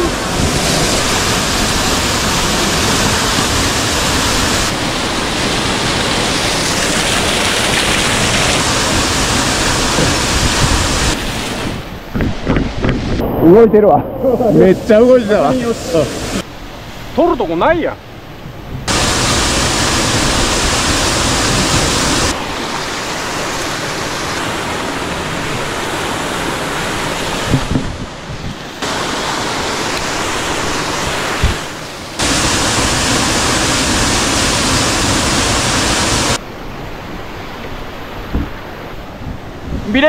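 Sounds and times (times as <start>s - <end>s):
waterfall water rushing: 0.0s - 12.0s, 13.2s - 39.6s.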